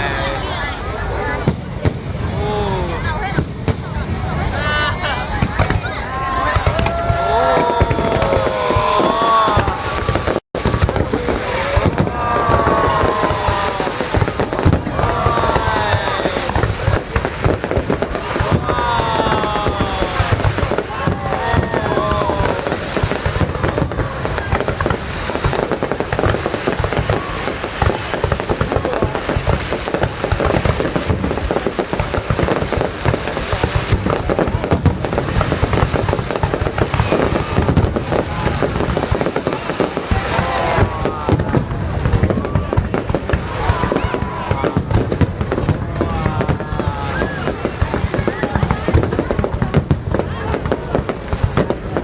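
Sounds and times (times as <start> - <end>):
fireworks bursting and crackling: 0.0 - 52.0.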